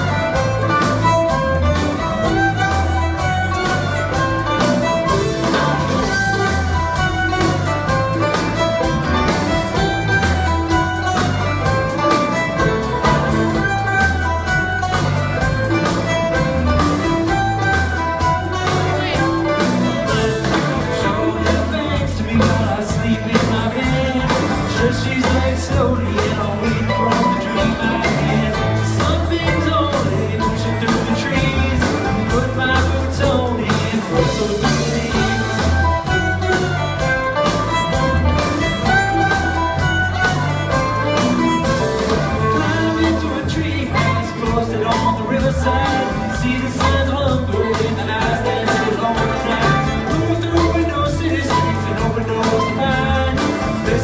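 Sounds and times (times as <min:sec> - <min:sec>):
string band playing live: 0:00.0 - 0:54.0.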